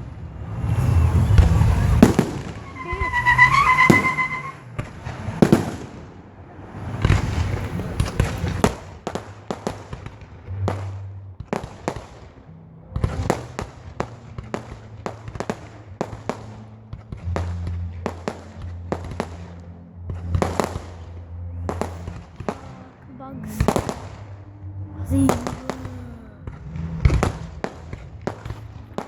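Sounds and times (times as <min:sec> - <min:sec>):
fireworks bangs and cracks: 0:00.0 - 0:12.4, 0:13.0 - 0:21.1, 0:25.1 - 0:29.0.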